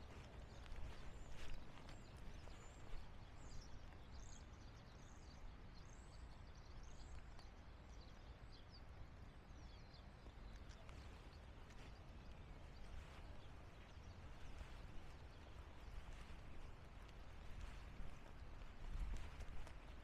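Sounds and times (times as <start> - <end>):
low city rumble: 0.0 - 20.0
small birds chirping: 0.0 - 20.0.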